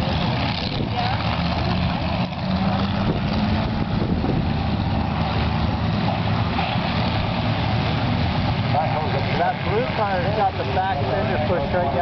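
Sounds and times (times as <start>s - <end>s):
race car engines rumbling: 0.0s - 12.0s.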